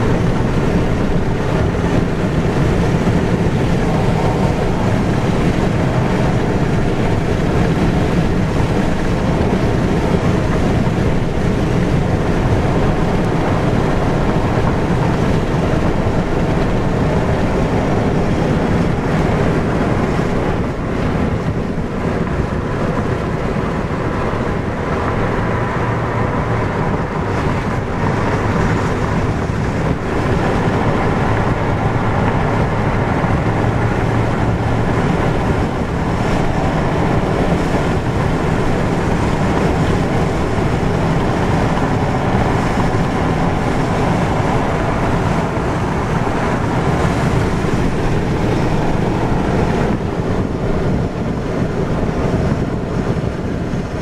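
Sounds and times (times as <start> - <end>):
car engine humming: 0.0 - 54.0
tyres on asphalt: 0.0 - 54.0.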